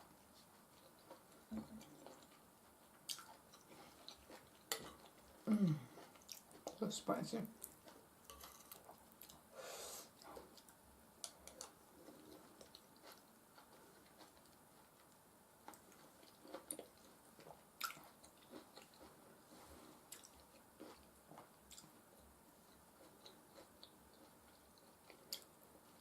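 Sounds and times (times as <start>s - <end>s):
chewing soft food: 0.0s - 26.0s.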